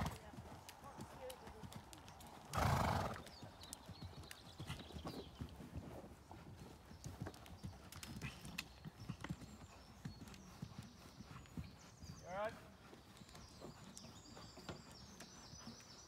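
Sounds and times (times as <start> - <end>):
horse hoofbeats cantering: 0.0 - 16.0.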